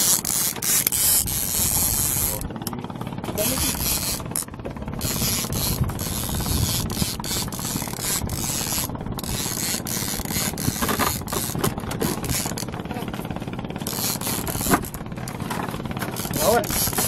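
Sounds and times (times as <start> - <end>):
fishing reel ratcheting: 0.0 - 2.5, 3.4 - 12.8, 13.8 - 17.0.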